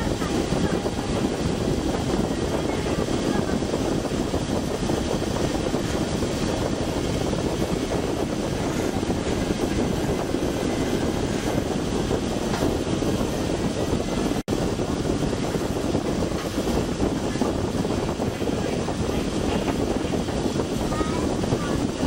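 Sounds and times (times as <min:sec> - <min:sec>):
boat engine drone: 0:00.0 - 0:22.0.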